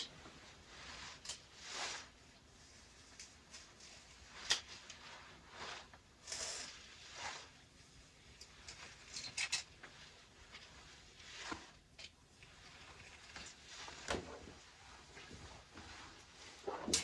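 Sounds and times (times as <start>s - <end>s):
faint rustling of hair: 0.0s - 17.0s.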